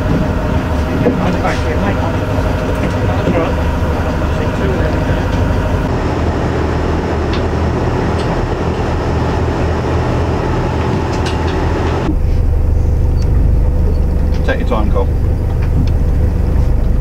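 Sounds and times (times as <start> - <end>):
boat engine running: 0.0 - 17.0
rattling clatter in cabin: 0.0 - 17.0.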